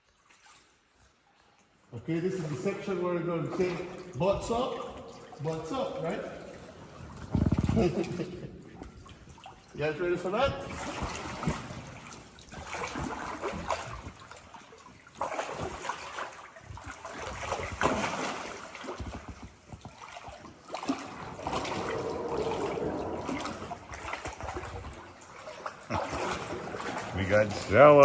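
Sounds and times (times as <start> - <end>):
river water trickling and splashing: 0.0 - 28.0.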